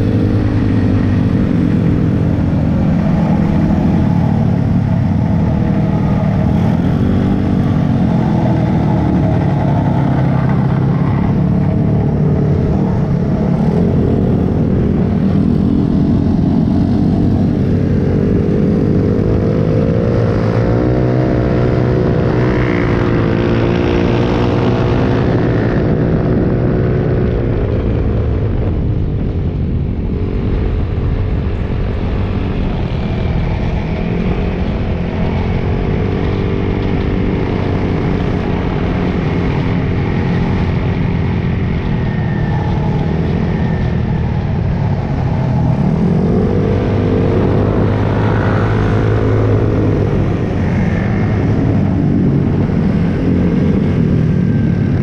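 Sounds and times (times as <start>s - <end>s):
small motorcycle engines revving: 0.0s - 55.0s.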